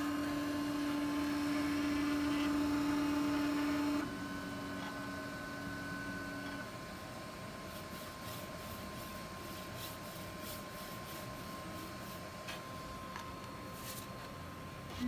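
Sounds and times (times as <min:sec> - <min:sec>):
printer high whine: 0:00.0 - 0:15.0.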